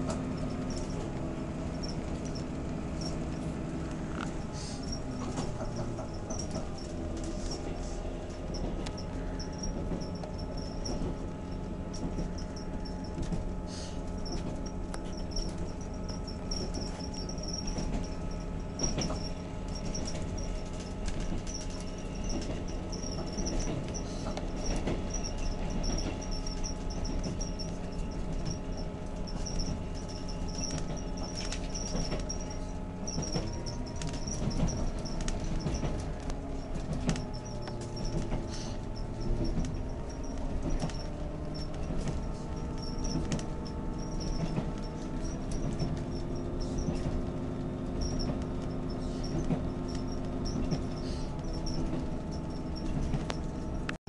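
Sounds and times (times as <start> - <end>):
train rumble of engine and wheels: 0.0 - 54.0
high squeak: 4.1 - 53.6.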